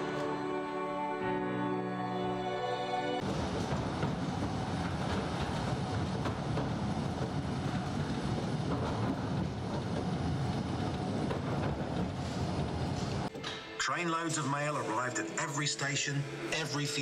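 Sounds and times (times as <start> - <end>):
train rumbling through tunnel: 3.2 - 17.0.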